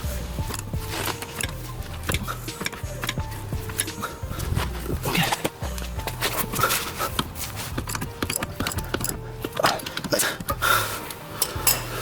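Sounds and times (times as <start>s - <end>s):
hand tools clicking and clanking: 0.0s - 12.0s.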